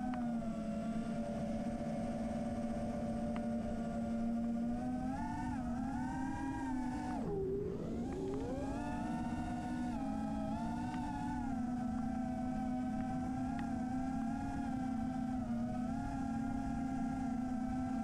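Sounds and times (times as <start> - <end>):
quadcopter motors buzzing whine: 0.0 - 18.0.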